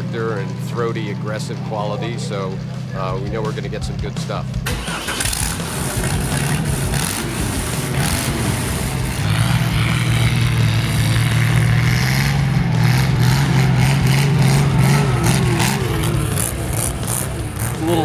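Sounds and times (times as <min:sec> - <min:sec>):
car engine running hard: 0:00.0 - 0:18.0.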